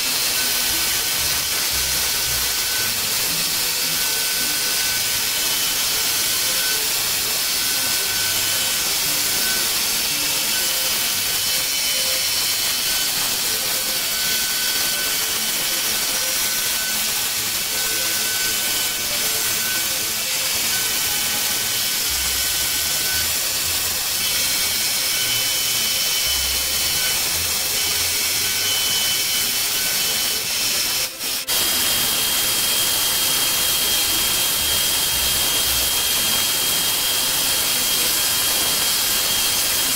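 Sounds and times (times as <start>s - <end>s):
milling machine cutting metal: 0.0s - 39.9s
thin high whine: 0.0s - 39.9s.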